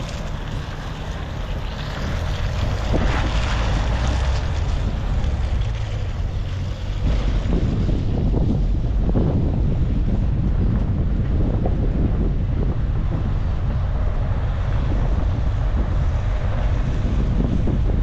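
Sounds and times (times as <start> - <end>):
vehicle rumble: 0.0 - 18.0
wind buffeting microphone: 0.0 - 18.0.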